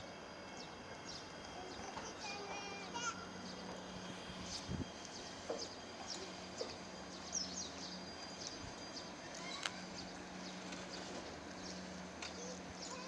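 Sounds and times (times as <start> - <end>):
steady low hum: 0.0 - 13.0
small birds chirping: 0.3 - 13.0.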